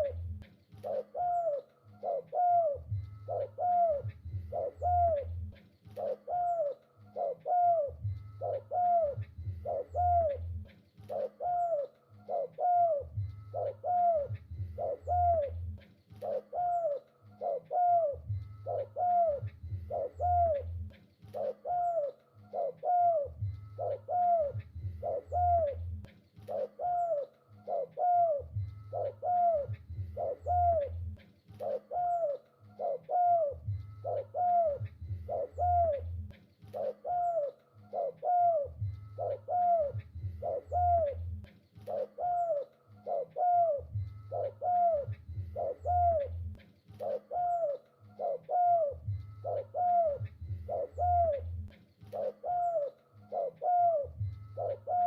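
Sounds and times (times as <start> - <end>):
deeper low coos: 0.0 - 46.5
dove cooing: 0.0 - 55.0.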